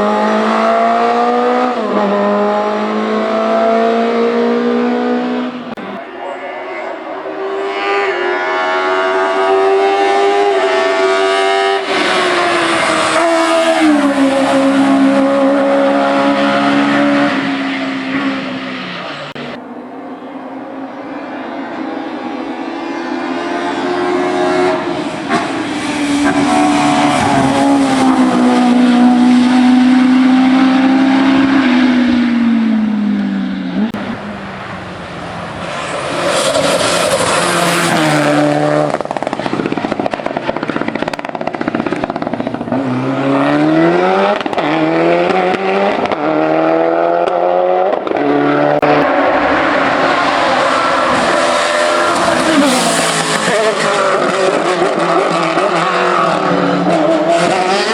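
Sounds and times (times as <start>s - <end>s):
race car engine at full throttle: 0.0s - 57.9s.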